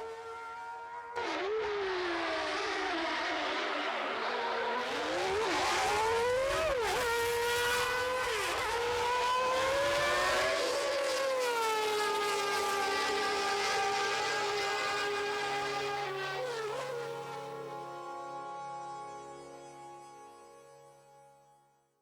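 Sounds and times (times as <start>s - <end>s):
high-revving racing car engine: 0.0s - 18.7s.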